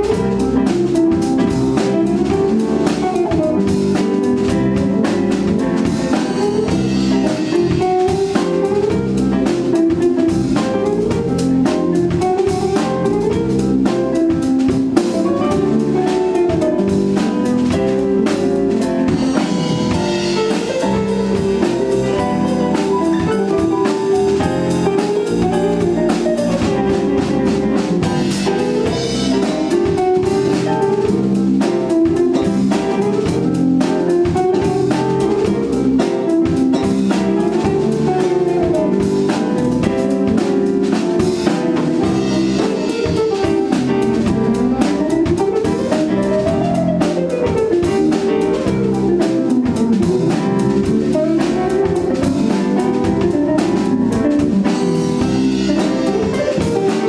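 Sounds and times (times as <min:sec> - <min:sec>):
jazz band playing live: 0:00.0 - 0:57.0.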